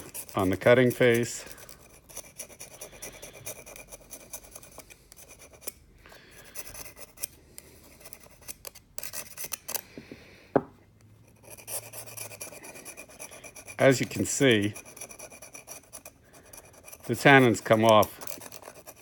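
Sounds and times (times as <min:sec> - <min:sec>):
knife scraping metal: 0:00.0 - 0:09.9, 0:11.2 - 0:19.0.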